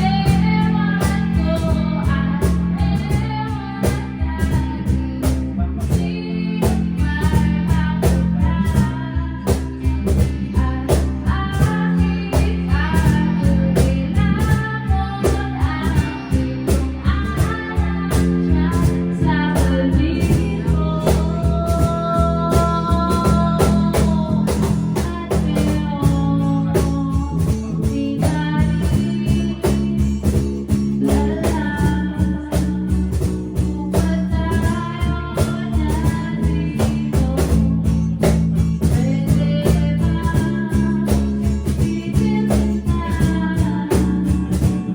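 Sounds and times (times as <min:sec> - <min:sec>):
bass guitar: 0:00.0 - 0:44.9
drum kit beat: 0:00.0 - 0:44.9
electric guitar lead lines: 0:00.0 - 0:44.9.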